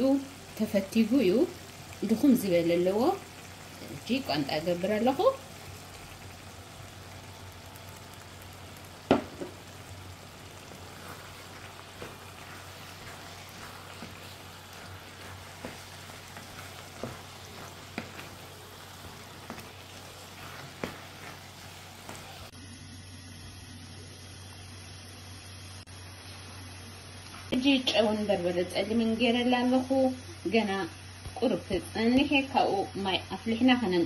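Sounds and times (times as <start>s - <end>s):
sauce sizzling in a frying pan: 0.0s - 34.0s.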